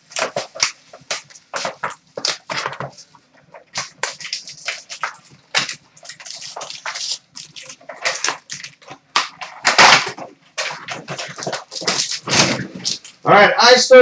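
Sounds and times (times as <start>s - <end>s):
plastic wrap crinkling and tearing: 0.0s - 13.2s.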